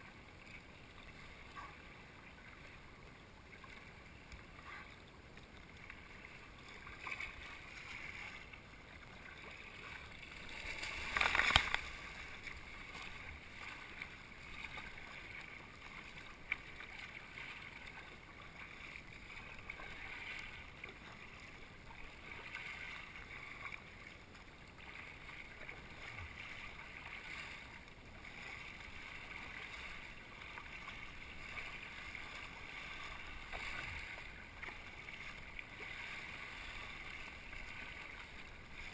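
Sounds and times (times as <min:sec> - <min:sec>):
water splashing against kayak: 0:00.0 - 0:38.9.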